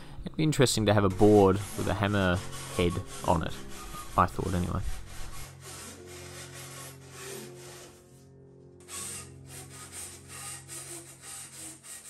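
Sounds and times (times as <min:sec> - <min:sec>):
soft background music: 0:00.0 - 0:12.0
tool rasping foam block: 0:01.1 - 0:08.1, 0:08.8 - 0:12.0.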